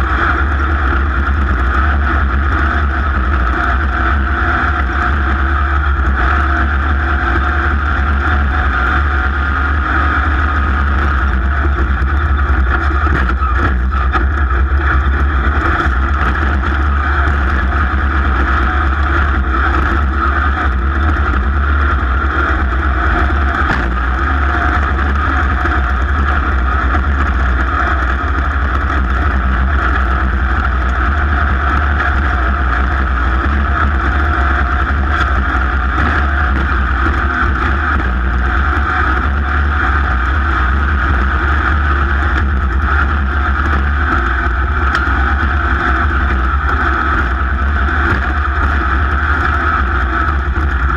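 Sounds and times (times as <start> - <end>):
racing engine running hard: 0.0 - 50.9
wind rumble: 0.0 - 50.9.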